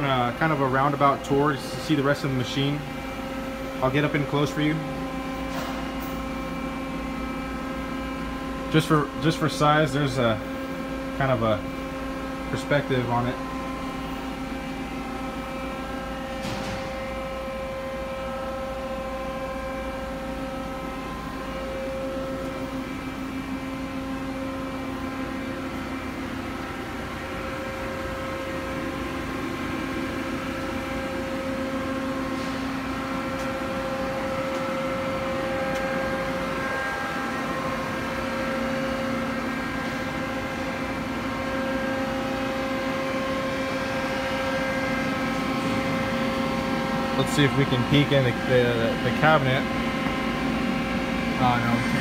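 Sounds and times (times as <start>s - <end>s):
machine hum: 0.0s - 52.0s.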